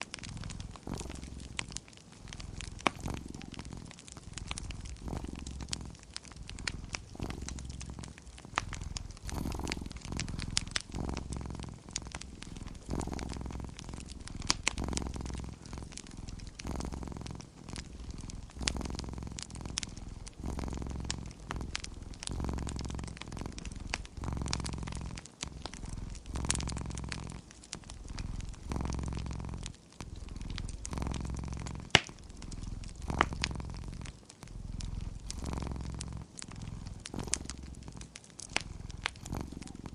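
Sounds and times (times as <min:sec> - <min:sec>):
cat purring: 0:00.0 - 0:39.9
fire pops: 0:00.0 - 0:39.9
wood fire crackling: 0:00.0 - 0:39.9.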